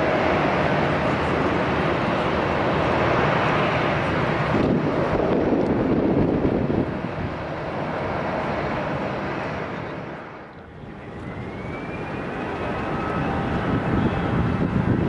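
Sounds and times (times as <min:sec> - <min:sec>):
airliner engine whoosh: 0:00.0 - 0:15.0
high engine whine: 0:00.0 - 0:15.0.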